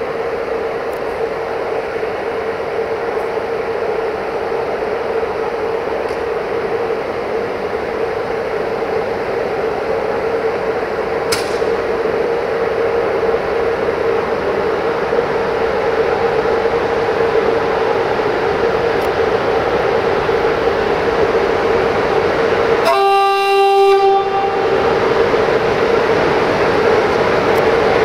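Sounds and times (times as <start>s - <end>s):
locomotive humming: 0.0s - 28.0s.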